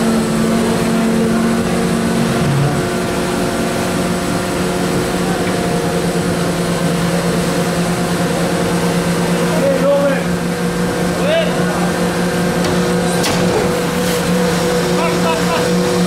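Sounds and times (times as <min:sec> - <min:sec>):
boat engine hum: 0:00.0 - 0:16.0.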